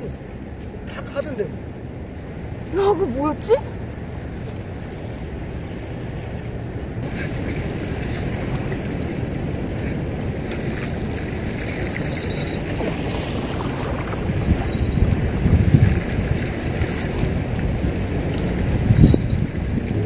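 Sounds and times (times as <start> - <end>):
shoreline water washing: 0.0 - 20.0
wind buffeting microphone: 0.0 - 20.0.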